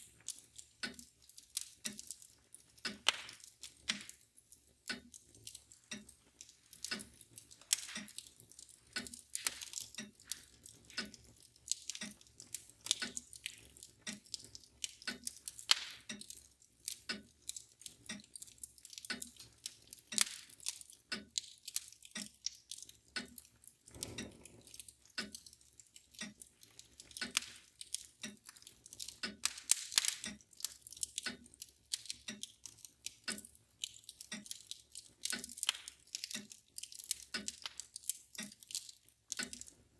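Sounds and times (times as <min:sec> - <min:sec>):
mantel clock ticking: 0:00.0 - 0:39.9
wood fire crackling and popping: 0:00.0 - 0:39.9.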